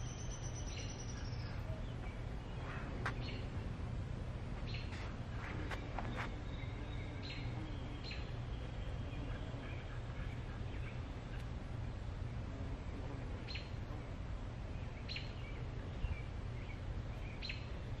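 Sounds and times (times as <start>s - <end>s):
birds chirping: 0.0s - 18.0s
low outdoor background rumble: 0.0s - 18.0s.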